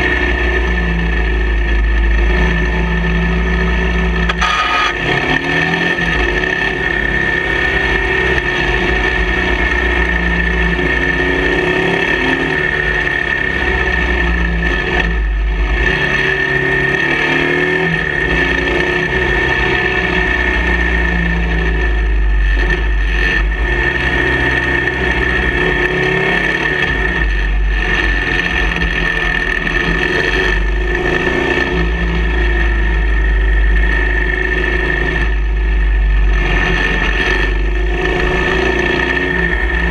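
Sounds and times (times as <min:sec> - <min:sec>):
constant high whine: 0:00.0 - 0:39.9
motorcycle engine running: 0:00.0 - 0:39.9.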